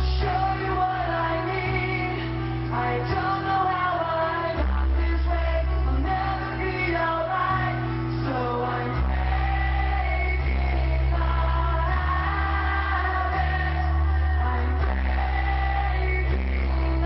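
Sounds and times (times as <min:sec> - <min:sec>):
held bass notes: 0:00.0 - 0:17.0
lead vocal singing: 0:00.0 - 0:17.0.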